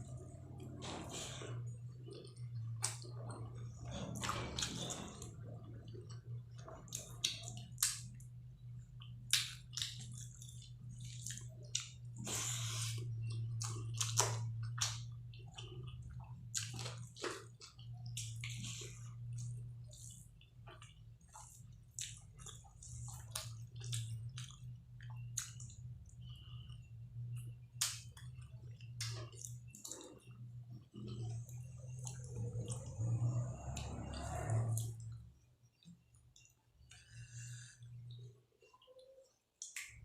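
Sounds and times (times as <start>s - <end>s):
steady low hum: 0.0s - 39.6s
wet chewing and lip smacks: 1.4s - 37.0s.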